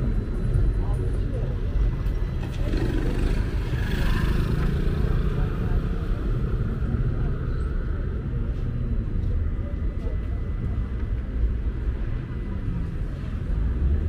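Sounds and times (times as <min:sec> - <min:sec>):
indistinct voices of passers-by: 0:00.0 - 0:14.0
low rumble of traffic: 0:00.0 - 0:14.0.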